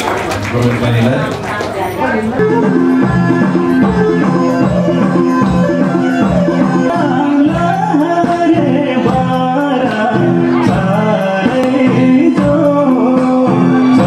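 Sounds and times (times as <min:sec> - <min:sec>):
instruments with light percussion: 0:01.5 - 0:14.0
person singing: 0:02.4 - 0:14.0.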